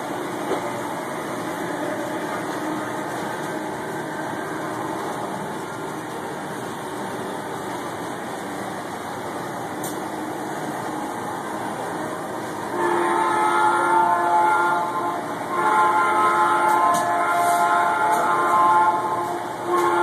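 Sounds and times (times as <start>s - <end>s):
model train humming: 0.0s - 20.0s.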